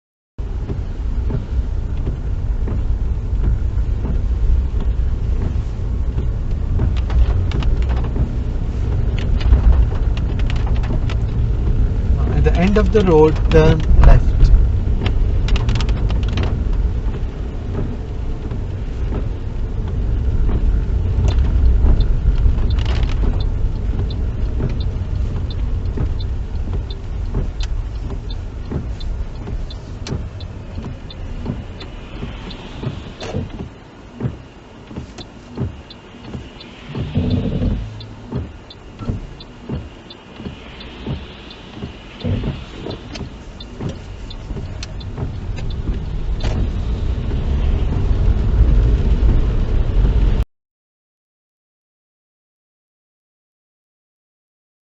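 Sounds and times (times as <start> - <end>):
car engine and tyre rumble: 0.4 - 50.4.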